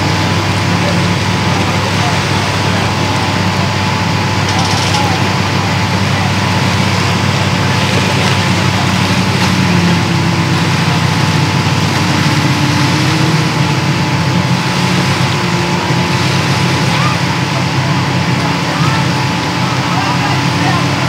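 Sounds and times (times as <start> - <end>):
pickup truck engine running: 0.0 - 21.0.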